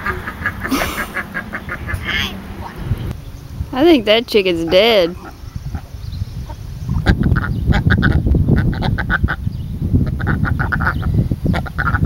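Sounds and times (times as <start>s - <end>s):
ducks quacking: 0.0s - 3.1s, 4.3s - 12.0s.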